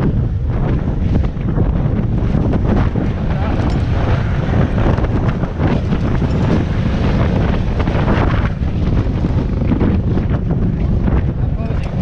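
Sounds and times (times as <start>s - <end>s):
helicopter rotor and turbine: 0.0s - 12.0s
wind buffeting microphone: 0.0s - 12.0s.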